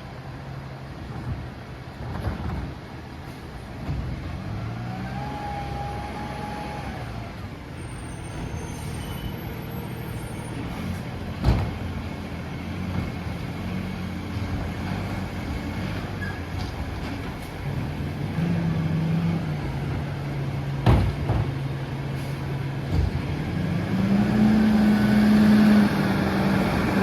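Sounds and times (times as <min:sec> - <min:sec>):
truck engine droning: 0:02.0 - 0:27.0.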